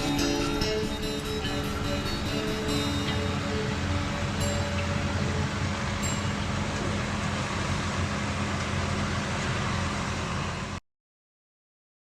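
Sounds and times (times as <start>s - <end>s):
truck diesel engine running: 0.0s - 10.8s.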